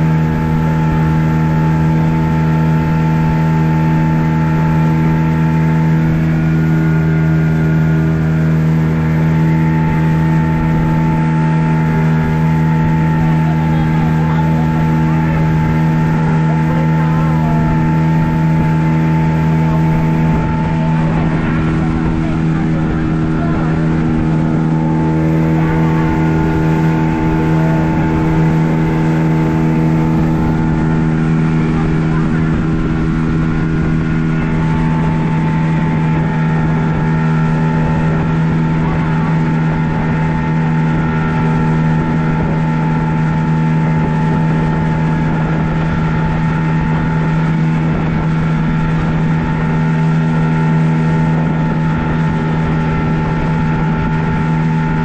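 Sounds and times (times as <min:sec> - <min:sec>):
outboard motor droning: 0:00.0 - 0:55.0.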